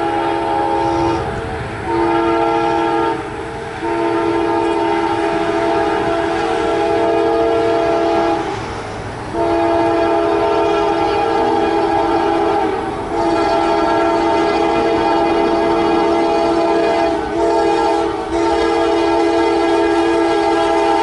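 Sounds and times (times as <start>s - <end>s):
locomotive air horn blasts: 0.0s - 8.6s, 9.3s - 21.0s
passing train noise: 0.0s - 21.0s.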